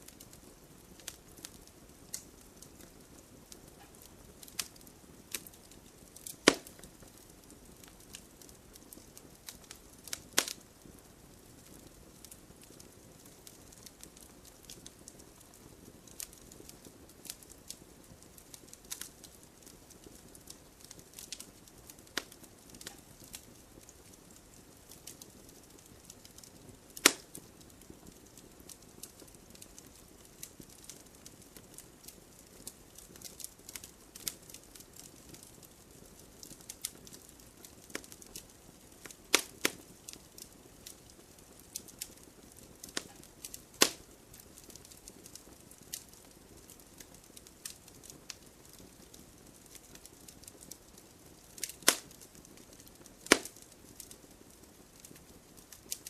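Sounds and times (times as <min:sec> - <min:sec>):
campfire crackling and popping: 0:00.0 - 0:56.0
faint low hiss: 0:00.0 - 0:56.0.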